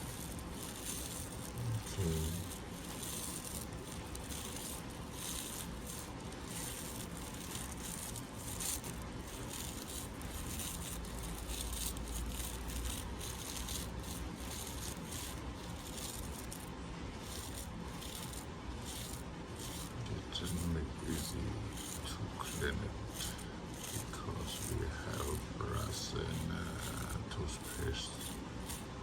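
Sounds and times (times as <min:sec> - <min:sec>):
brush scrubbing a ring: 0:00.0 - 0:29.0
steady low hum: 0:00.0 - 0:29.0.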